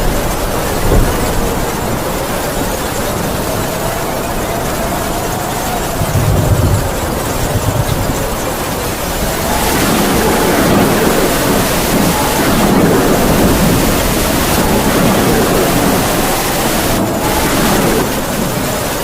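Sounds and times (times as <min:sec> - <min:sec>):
heavy rain: 0:00.0 - 0:19.0
wind howling: 0:00.0 - 0:19.0.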